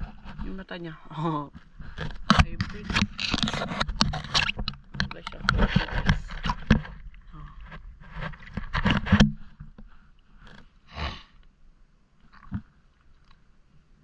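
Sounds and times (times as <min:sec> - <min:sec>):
water splashing and sloshing: 0:00.0 - 0:10.9, 0:12.1 - 0:14.0.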